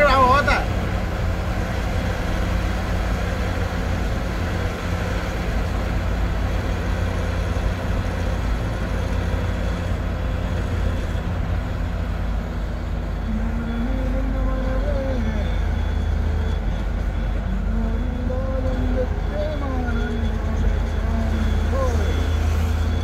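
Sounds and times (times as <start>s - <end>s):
bus running alongside: 0.0s - 23.0s
road noise: 0.0s - 23.0s
vehicle engine rumble: 0.0s - 23.0s.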